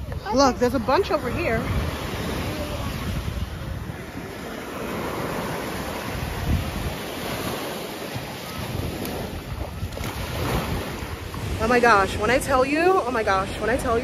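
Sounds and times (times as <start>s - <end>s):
ocean surf on a beach: 0.0s - 14.0s
wind buffeting the microphone: 0.0s - 14.0s.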